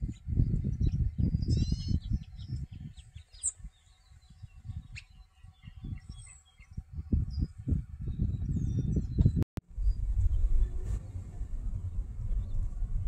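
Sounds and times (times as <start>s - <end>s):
small birds chirping: 0.0s - 11.2s
uneven low rumble: 0.0s - 13.0s.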